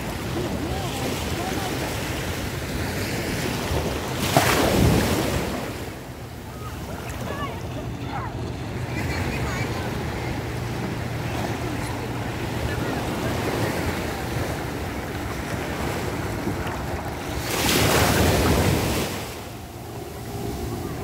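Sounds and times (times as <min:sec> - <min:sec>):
rush of water: 0:00.0 - 0:21.0
small waves lapping: 0:00.0 - 0:21.0
speedboat engine drone: 0:00.0 - 0:21.0.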